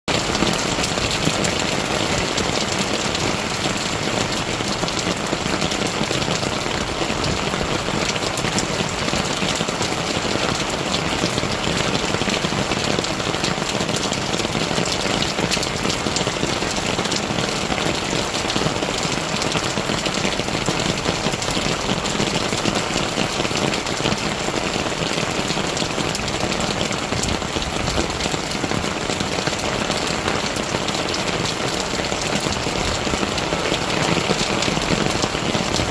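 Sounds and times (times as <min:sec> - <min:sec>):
raindrops ticking on surface: 0:00.1 - 0:35.9.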